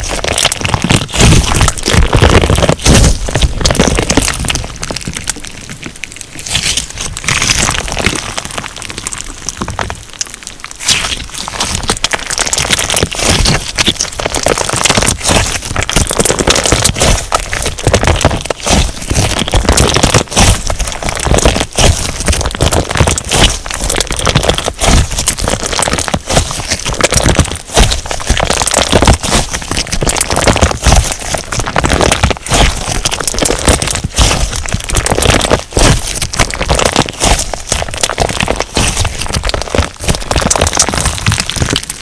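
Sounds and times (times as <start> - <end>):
crunchy slime crackling and popping: 0.0 - 42.0.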